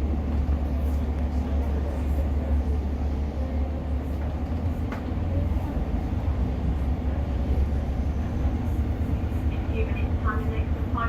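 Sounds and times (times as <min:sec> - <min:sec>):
diesel engine low rumble: 0:00.0 - 0:11.0
train wheels on track: 0:00.0 - 0:11.0.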